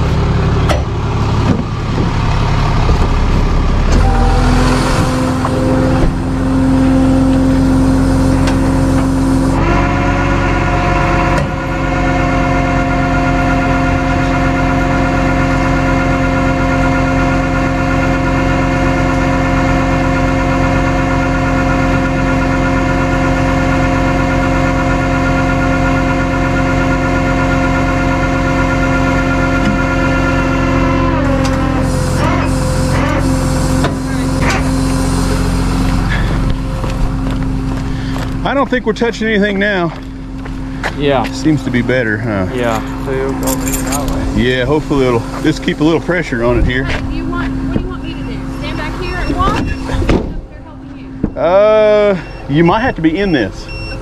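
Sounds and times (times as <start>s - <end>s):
steady whine: 0.0s - 54.0s
vehicle engine running steadily: 0.0s - 54.0s.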